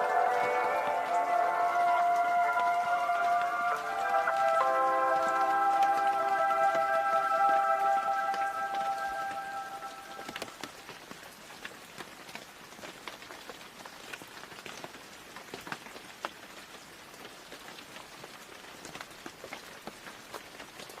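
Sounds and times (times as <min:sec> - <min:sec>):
rain falling: 0:00.0 - 0:21.0
raindrops ticking on surfaces: 0:00.0 - 0:21.0.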